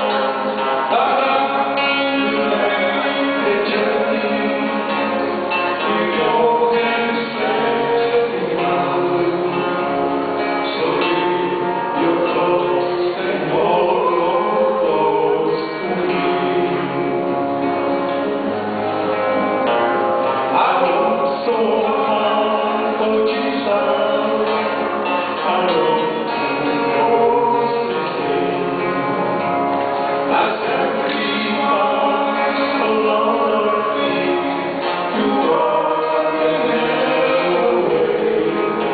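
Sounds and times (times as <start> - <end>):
two men singing gospel: 0.0 - 17.8, 20.3 - 38.9
guitar accompaniment: 0.0 - 38.9.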